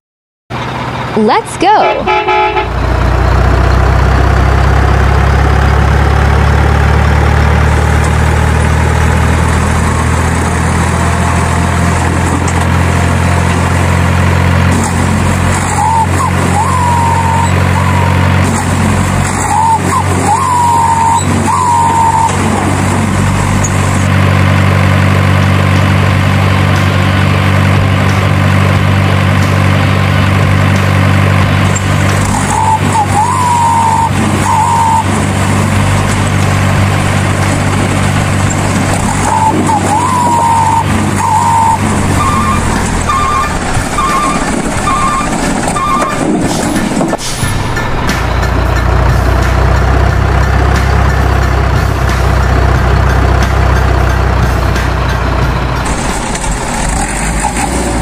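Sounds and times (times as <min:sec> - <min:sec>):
heavy truck engine droning: 0:00.5 - 0:58.0.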